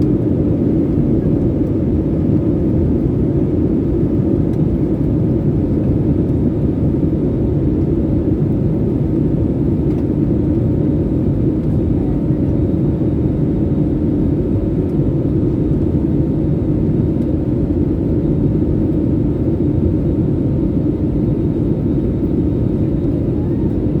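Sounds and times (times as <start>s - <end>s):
airplane engines rumbling in cabin: 0.0s - 24.0s.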